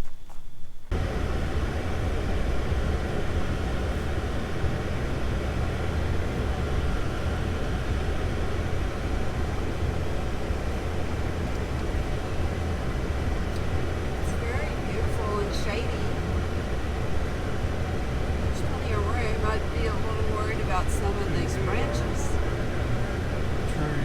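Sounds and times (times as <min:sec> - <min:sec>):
car road rumble and engine: 0:00.9 - 0:24.0.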